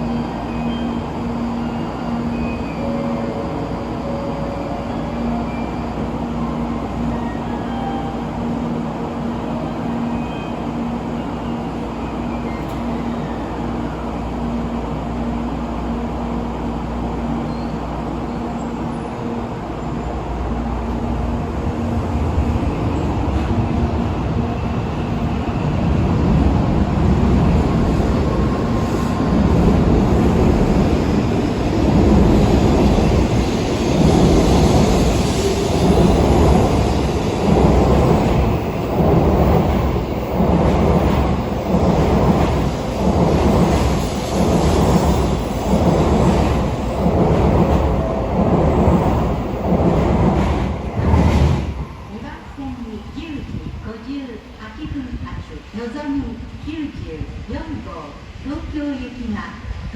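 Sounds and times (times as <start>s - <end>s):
train rumbling past: 0.0s - 59.9s.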